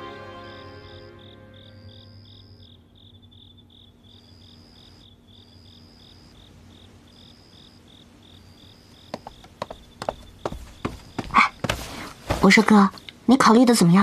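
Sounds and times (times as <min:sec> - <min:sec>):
high cricket trills: 0:00.0 - 0:14.0
crickets chirping: 0:00.1 - 0:14.0.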